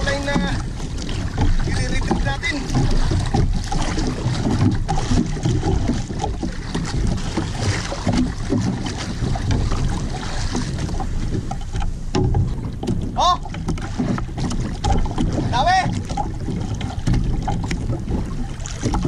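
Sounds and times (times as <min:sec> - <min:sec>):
water splashing against boat hull: 0:00.0 - 0:19.0
wind buffeting microphone: 0:00.0 - 0:19.0.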